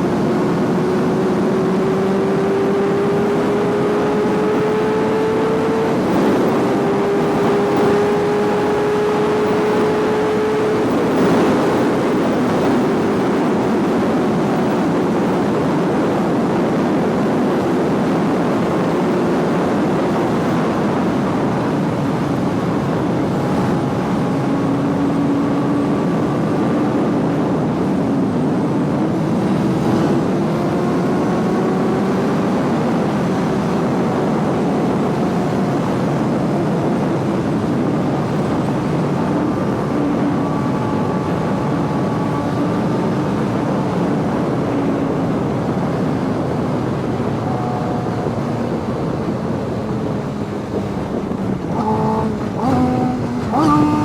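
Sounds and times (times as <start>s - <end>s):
motorcycle engine cruising: 0.0s - 54.0s
wind noise: 0.0s - 54.0s.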